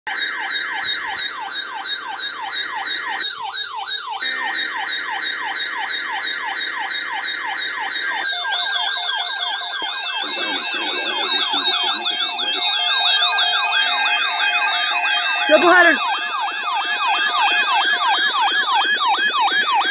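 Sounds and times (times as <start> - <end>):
electronic alarm tone sweeping: 0.1 - 19.9.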